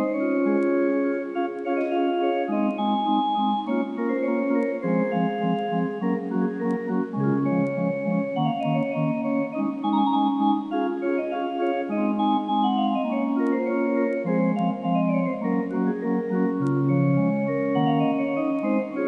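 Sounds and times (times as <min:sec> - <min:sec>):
organ playing sustained chords: 0:00.0 - 0:19.0.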